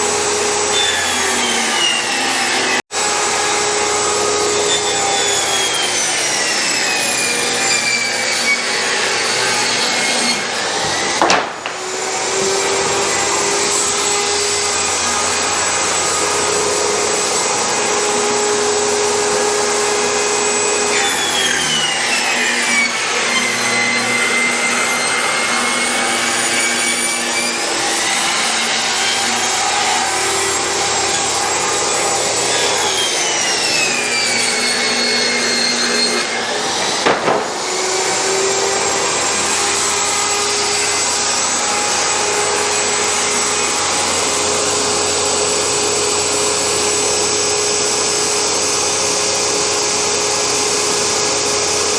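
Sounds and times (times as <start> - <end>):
power saw cutting wood: 0.0 - 51.9.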